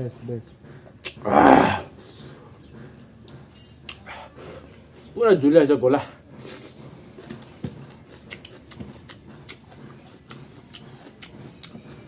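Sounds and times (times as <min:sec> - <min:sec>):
man chewing food: 0:00.5 - 0:05.2, 0:06.2 - 0:12.0.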